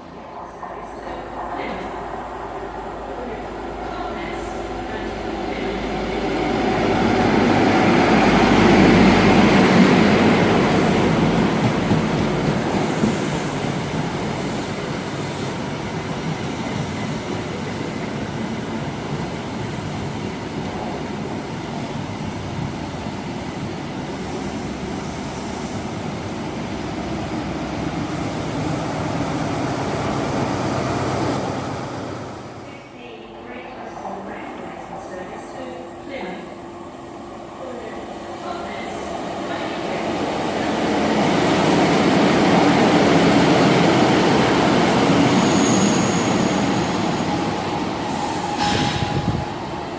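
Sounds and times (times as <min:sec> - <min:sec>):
train running on wheels: 0:02.9 - 0:32.7, 0:33.9 - 0:49.9.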